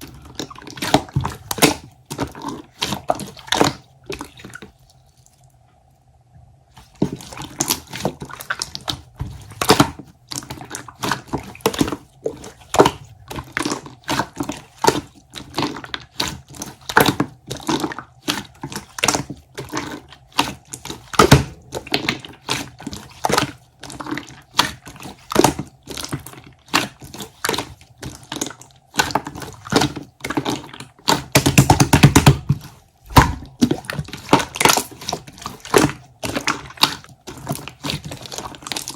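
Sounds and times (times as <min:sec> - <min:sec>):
slime squished by hand: 0:06.8 - 0:38.9.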